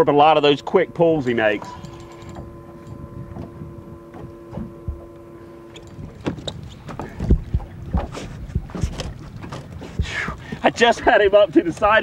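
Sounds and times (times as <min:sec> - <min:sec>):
low rumble: 0:00.0 - 0:10.4
faint steady hum: 0:00.0 - 0:12.0
knocks and thumps on boat: 0:00.6 - 0:12.0.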